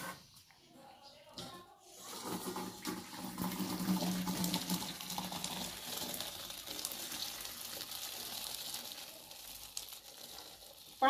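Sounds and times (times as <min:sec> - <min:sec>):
water pouring through colander: 0:01.8 - 0:11.0.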